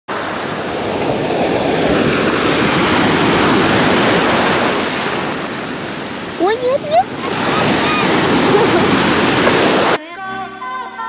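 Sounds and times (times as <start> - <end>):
sea surf breaking on shore: 0.1 - 10.0.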